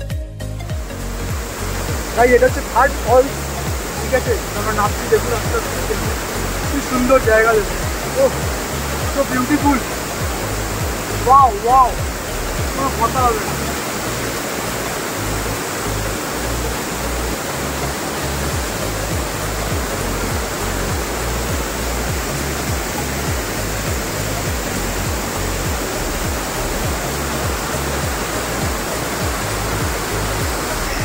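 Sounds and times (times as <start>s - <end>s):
waterfall rushing: 0.7s - 31.0s.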